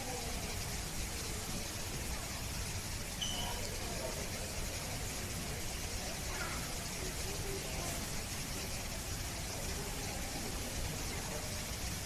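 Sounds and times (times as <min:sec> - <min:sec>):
distant voices murmuring: 0:00.0 - 0:12.0
steady background hum: 0:00.0 - 0:12.0.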